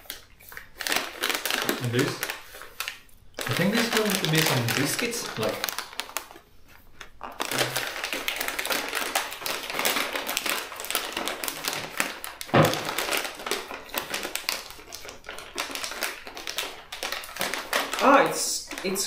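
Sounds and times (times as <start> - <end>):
plastic wrappers crinkling: 0.0 - 19.0.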